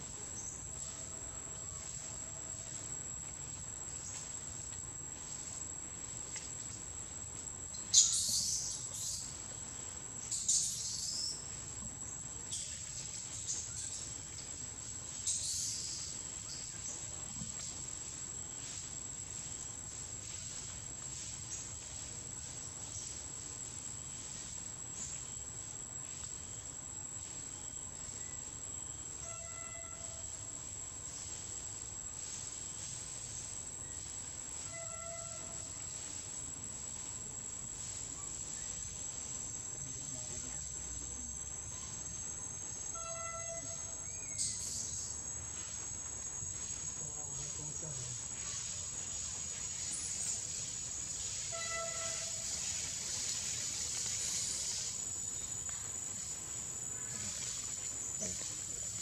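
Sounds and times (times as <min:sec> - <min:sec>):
insects shrilling: 0:07.5 - 0:59.0.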